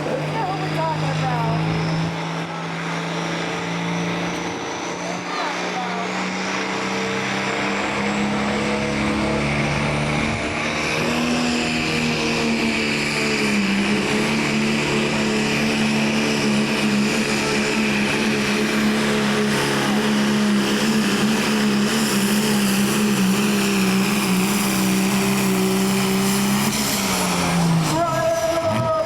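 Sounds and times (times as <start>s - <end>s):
diesel engine running hard: 0.0s - 29.0s.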